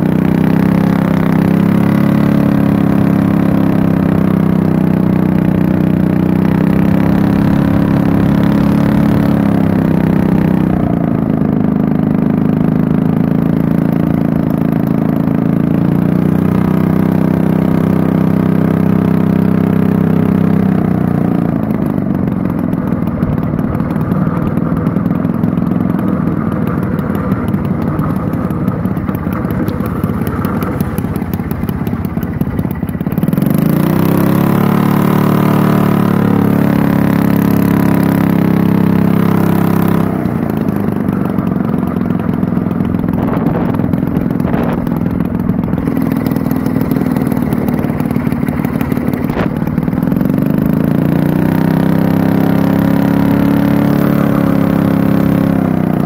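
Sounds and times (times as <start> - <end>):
air sled engine and propeller: 0.0 - 56.0.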